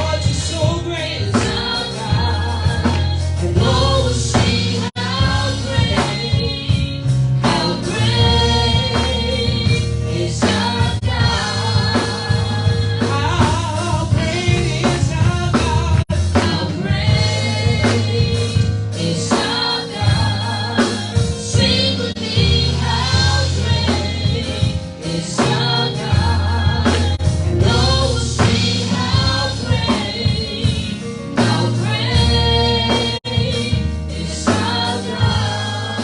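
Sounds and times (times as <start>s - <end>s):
gospel singing: 0.0s - 36.0s
steady bass line: 0.0s - 36.0s.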